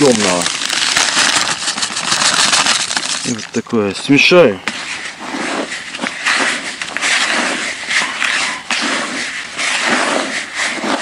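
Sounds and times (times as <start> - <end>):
dry crumbs rustling in a bucket: 0.0 - 11.0.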